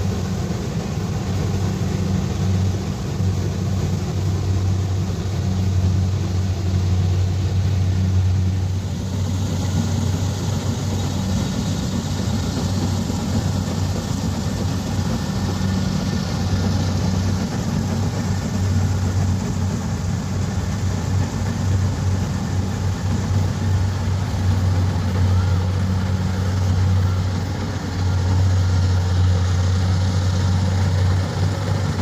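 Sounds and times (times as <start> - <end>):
combine harvester diesel engine: 0.0 - 32.0.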